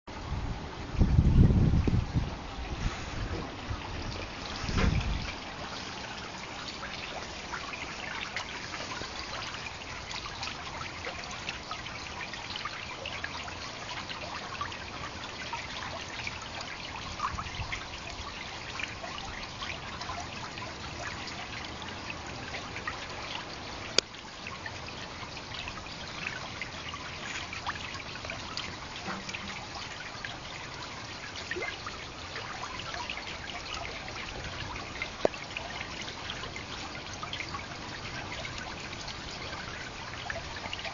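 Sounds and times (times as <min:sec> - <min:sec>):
fountain water splashing: 0:00.9 - 0:40.9.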